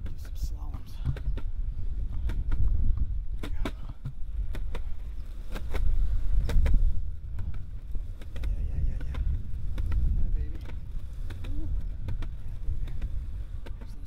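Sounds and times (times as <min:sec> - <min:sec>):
skateboard wheels rumbling on concrete: 0:00.0 - 0:14.0
wheels clicking over joints: 0:00.0 - 0:14.0.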